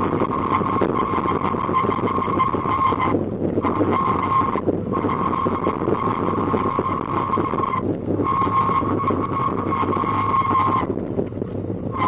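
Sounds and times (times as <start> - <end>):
high-pitched whine: 0.0 - 12.0
wheels rumbling on pavement: 0.0 - 12.0.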